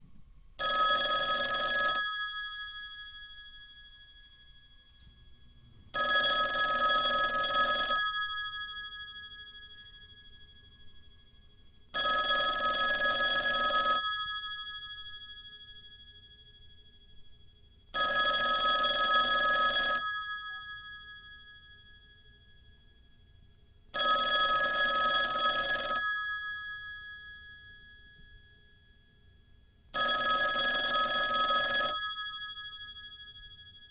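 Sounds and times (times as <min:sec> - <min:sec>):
rotary telephone bell ringing: 0:00.6 - 0:05.0, 0:05.9 - 0:10.9, 0:11.9 - 0:16.7, 0:17.9 - 0:23.2, 0:24.0 - 0:33.9.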